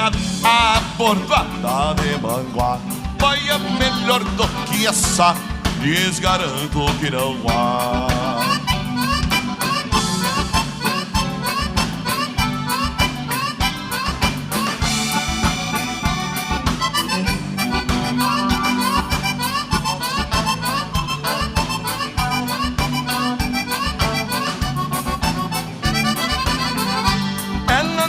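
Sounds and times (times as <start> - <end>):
accordion fast melodic runs: 0.0 - 28.0
bouncing bass line: 0.0 - 28.0
steady drum beat: 0.0 - 28.0.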